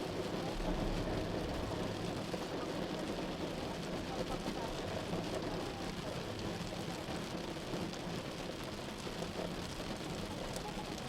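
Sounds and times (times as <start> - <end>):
rain falling on a car: 0.0 - 11.0
raindrop ticks: 0.0 - 11.0
road and engine rumble: 0.0 - 11.0.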